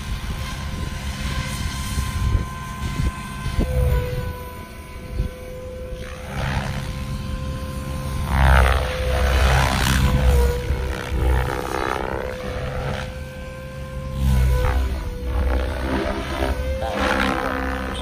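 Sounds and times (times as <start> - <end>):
helicopter rotor blades whooshing: 0.0 - 18.0
steady high whine: 0.0 - 18.0.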